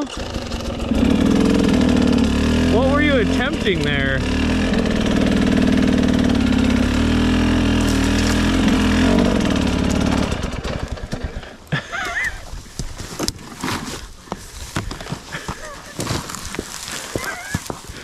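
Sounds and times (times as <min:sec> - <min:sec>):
dirt bike engine idling: 0:00.0 - 0:18.0.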